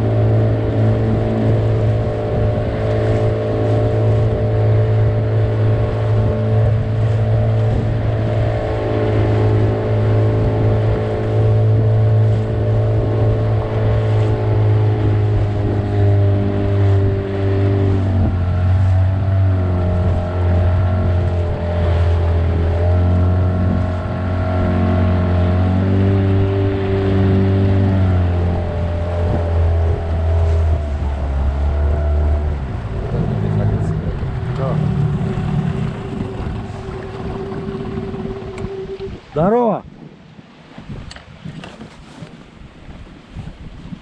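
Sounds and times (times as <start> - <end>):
motorboat engine drone: 0.0 - 39.7.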